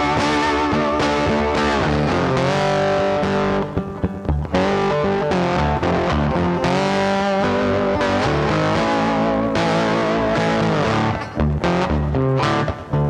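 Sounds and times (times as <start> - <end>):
electric guitar music: 0.0 - 13.0.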